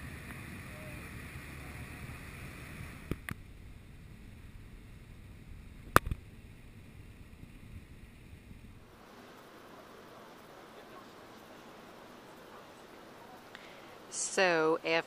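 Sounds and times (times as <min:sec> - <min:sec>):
low rumbling of boat: 0:00.0 - 0:14.1.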